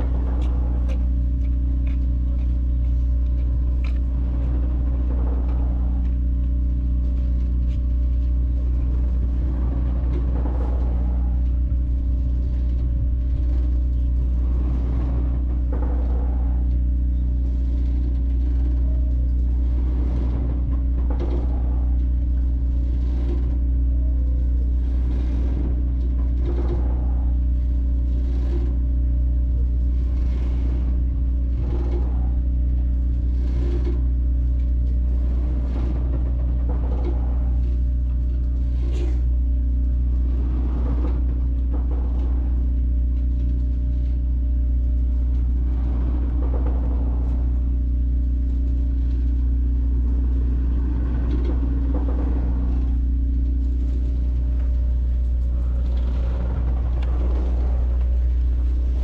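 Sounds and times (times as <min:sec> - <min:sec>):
large engine idling: 0:00.0 - 0:59.0.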